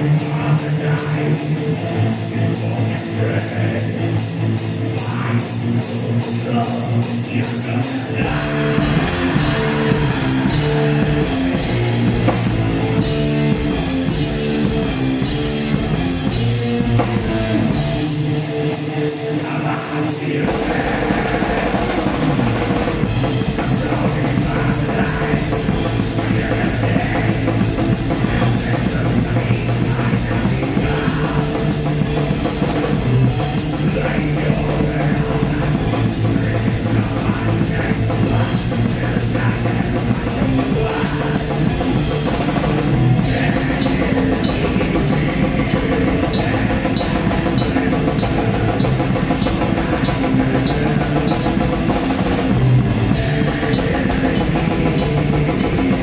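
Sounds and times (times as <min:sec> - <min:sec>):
distorted guitars: 0:00.0 - 0:56.0
fast drumming with cymbals: 0:00.0 - 0:56.0.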